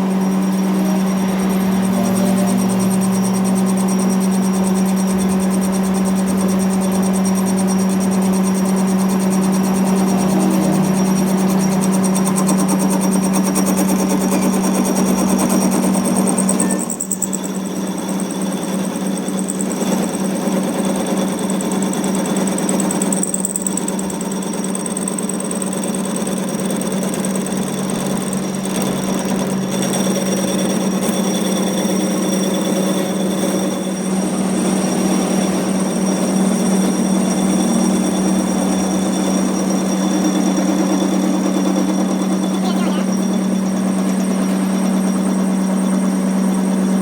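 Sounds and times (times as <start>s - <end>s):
machine humming: 0.0s - 32.0s, 36.4s - 47.0s
machine whine: 0.0s - 47.0s.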